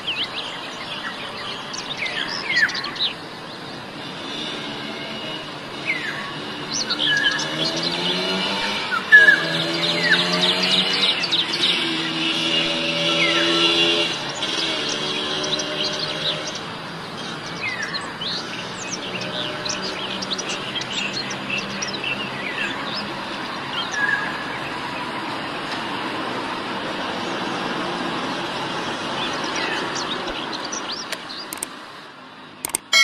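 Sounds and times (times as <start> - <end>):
birds chirping: 0.0 - 25.5, 26.9 - 31.8, 32.6 - 33.0.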